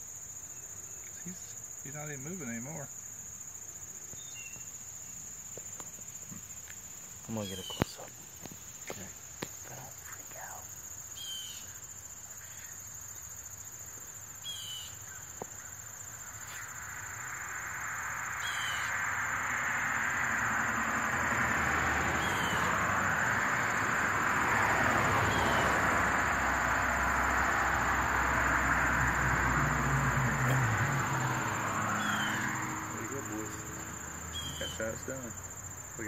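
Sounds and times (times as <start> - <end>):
falling insect chirp: 0.0 - 36.0
high-pitched insect drone: 0.0 - 36.0.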